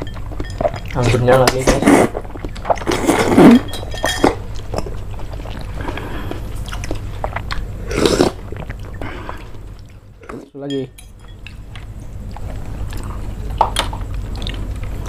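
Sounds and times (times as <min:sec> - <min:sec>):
slurping and chewing: 0:00.0 - 0:10.6, 0:11.3 - 0:15.0.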